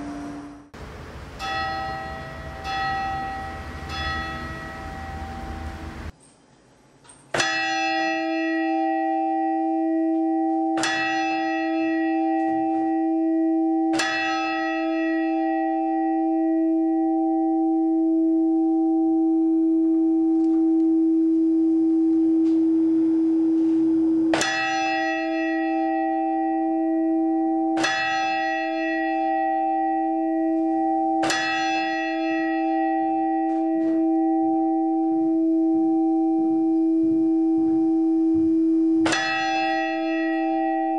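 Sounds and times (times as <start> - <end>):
deep bell hum: 0.0 - 6.2, 7.4 - 40.9
church bell strikes: 0.7 - 6.2, 7.4 - 40.9.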